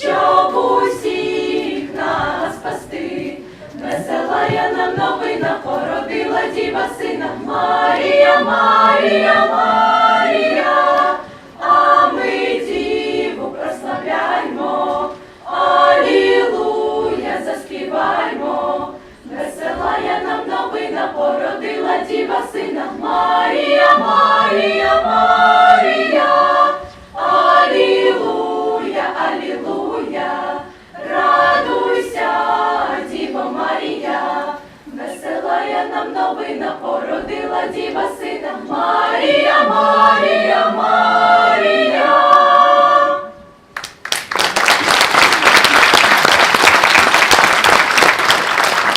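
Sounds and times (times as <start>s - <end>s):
choir singing a carol: 0.0s - 43.8s.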